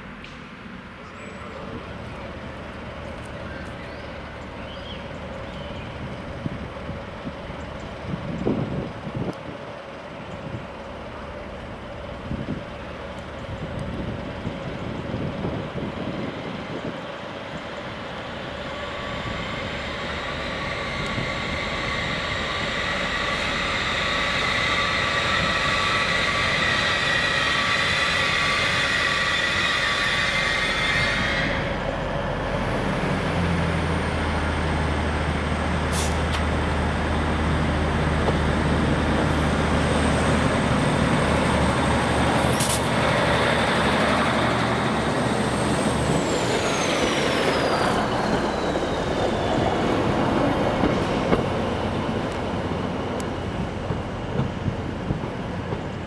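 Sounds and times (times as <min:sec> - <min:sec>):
train running steady whine: 0:00.0 - 0:56.0.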